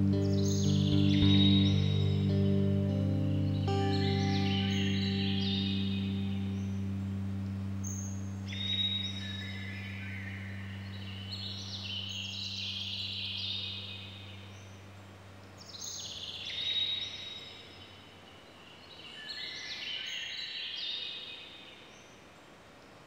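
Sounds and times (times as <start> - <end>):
low steady hum: 0.0 - 18.6.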